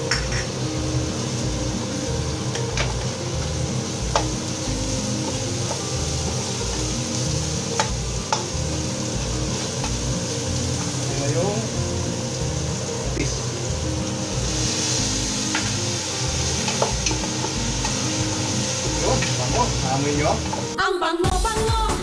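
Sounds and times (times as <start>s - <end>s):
food sizzling in oil: 0.0s - 20.8s.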